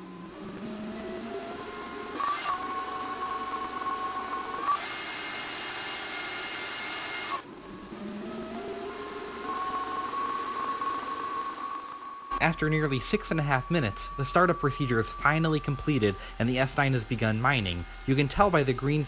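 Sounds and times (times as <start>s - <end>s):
cooling fans whining: 0.0s - 19.0s.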